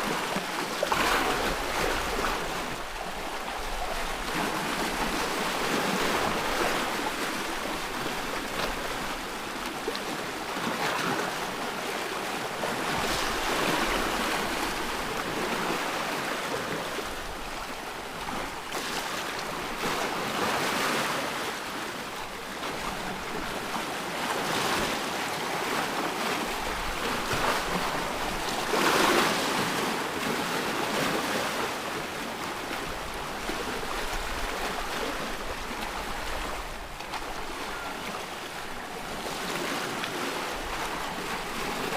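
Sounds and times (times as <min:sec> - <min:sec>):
ocean waves breaking: 0:00.0 - 0:41.9.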